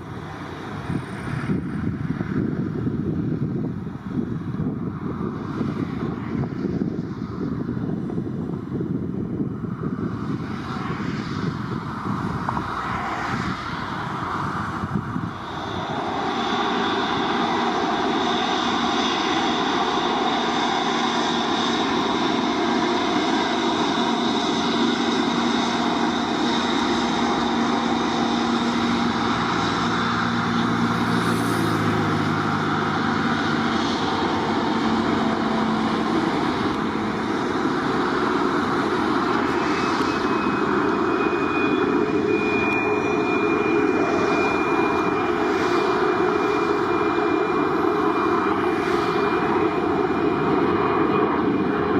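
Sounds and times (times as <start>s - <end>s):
airliner engines whining: 0.0s - 51.9s.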